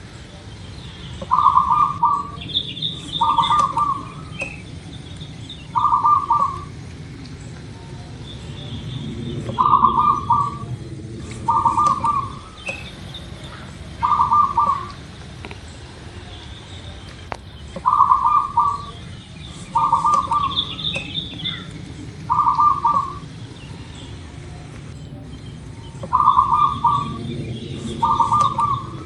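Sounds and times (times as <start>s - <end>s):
dove cooing: 0.0s - 29.0s
faint bird chirps: 0.0s - 29.0s.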